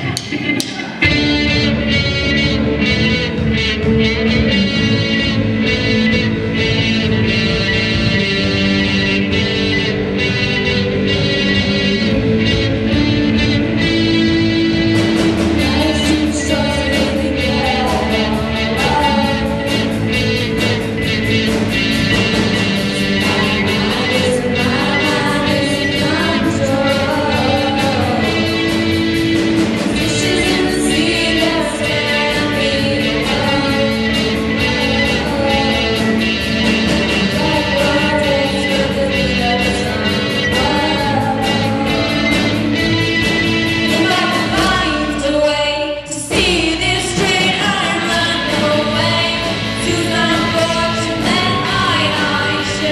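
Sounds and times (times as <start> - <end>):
steady drum beat: 0.0 - 45.2, 46.2 - 52.9
guitar: 0.0 - 52.9
person singing: 7.5 - 52.9.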